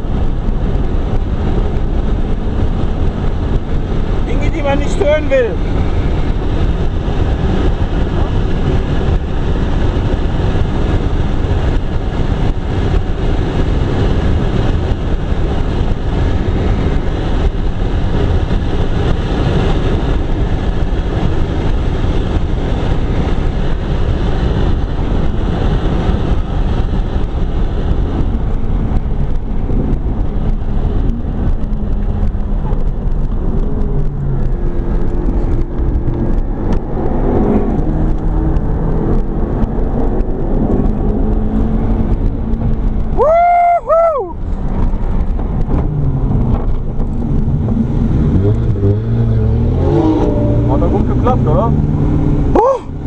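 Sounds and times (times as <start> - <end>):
car engine at speed: 0.0 - 53.0
tyre and road noise: 0.0 - 53.0.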